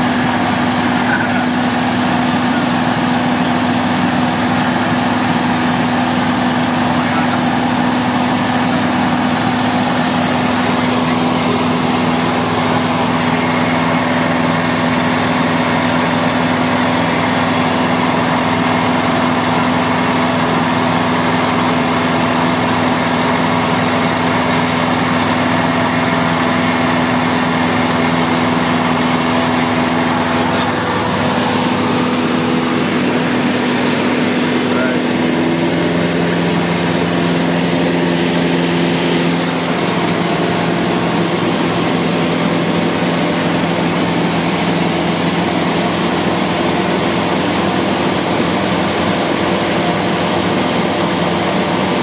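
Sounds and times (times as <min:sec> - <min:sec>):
aircraft piston engine drone: 0:00.0 - 0:52.0.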